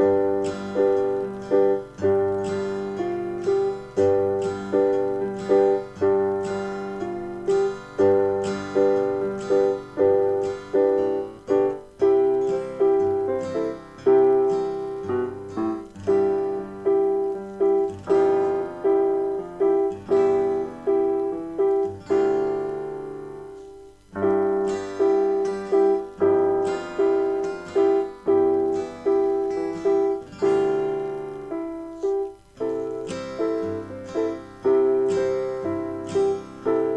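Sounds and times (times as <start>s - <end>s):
gentle solo piano: 0.0s - 36.9s.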